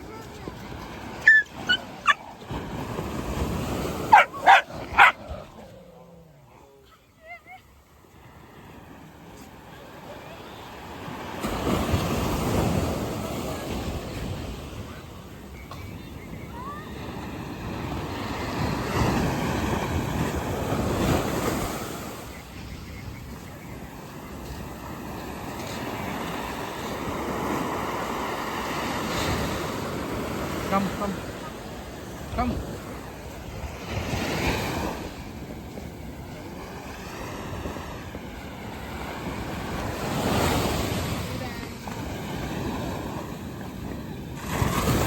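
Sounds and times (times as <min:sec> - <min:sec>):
waves washing on sandy beach: 0:00.0 - 0:45.0.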